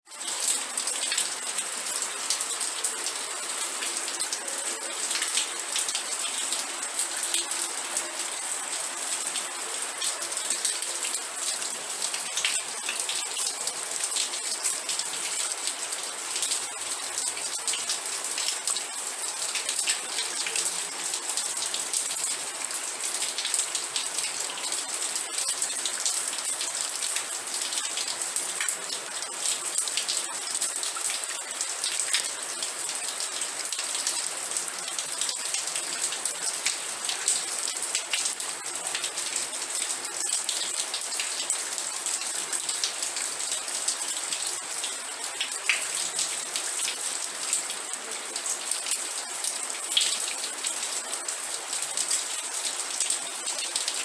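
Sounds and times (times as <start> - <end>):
rain drops crackling on a surface: 0.1 - 54.0.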